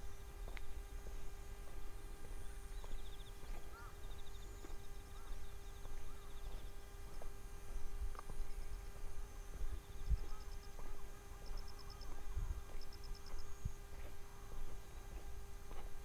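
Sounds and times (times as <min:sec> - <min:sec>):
footsteps on asphalt: 0:00.0 - 0:16.0
wind rumbling on microphone: 0:00.0 - 0:16.0.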